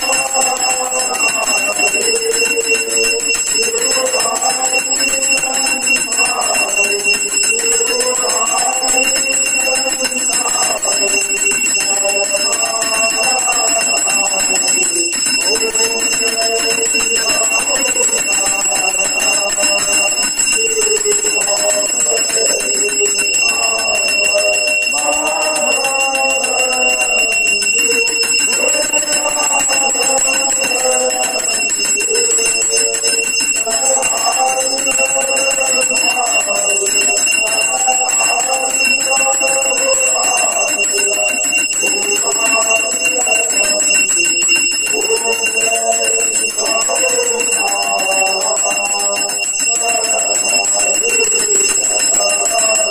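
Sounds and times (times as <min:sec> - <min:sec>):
hand bell ringing: 0:00.0 - 0:52.9
men singing a hymn: 0:00.0 - 0:52.9.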